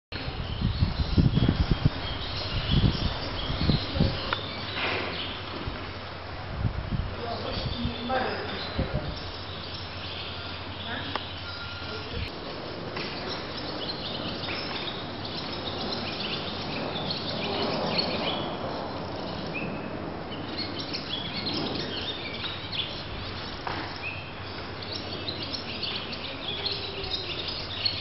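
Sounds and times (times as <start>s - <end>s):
small birds chirping: 0.2s - 6.3s, 7.1s - 28.0s.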